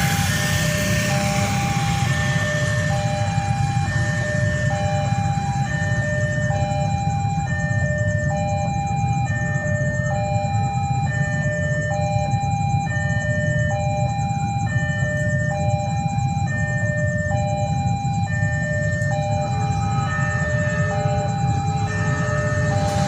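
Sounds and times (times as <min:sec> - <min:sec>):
steady low rumble: 0:00.0 - 0:11.8, 0:15.2 - 0:23.0.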